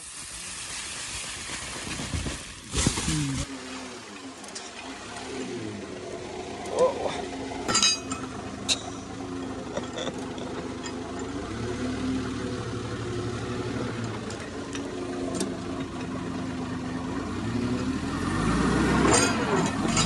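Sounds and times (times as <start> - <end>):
tractor engine running: 2.1 - 20.0.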